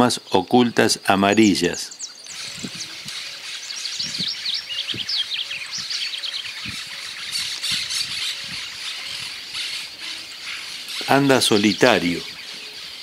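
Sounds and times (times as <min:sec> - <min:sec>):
birds chirping: 0:00.0 - 0:13.0
steady high hiss: 0:00.0 - 0:13.0.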